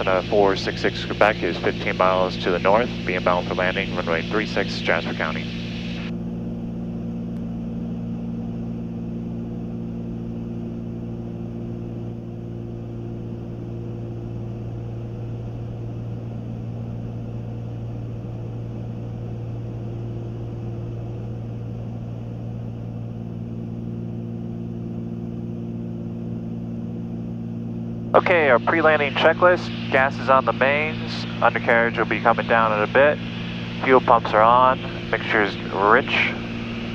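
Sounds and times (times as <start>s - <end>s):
airplane cabin engine drone: 0.0s - 36.9s.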